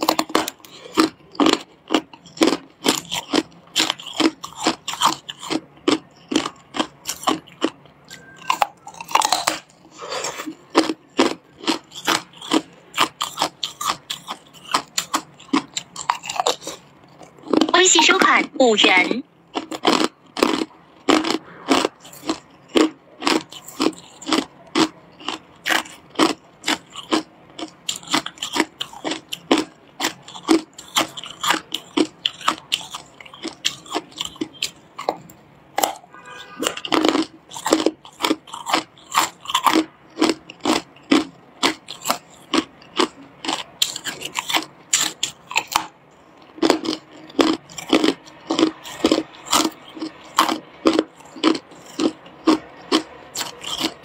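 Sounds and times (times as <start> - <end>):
ice crunching between teeth: 0.0 - 54.0.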